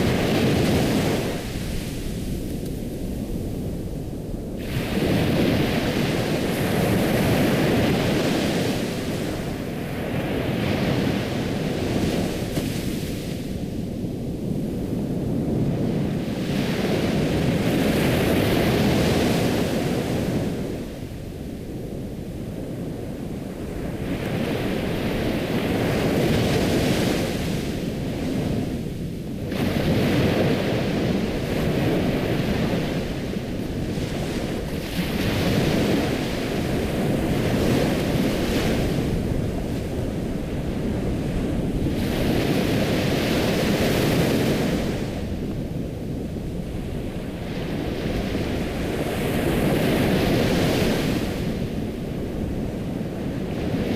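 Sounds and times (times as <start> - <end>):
ocean waves breaking: 0.0 - 13.8, 23.2 - 53.9.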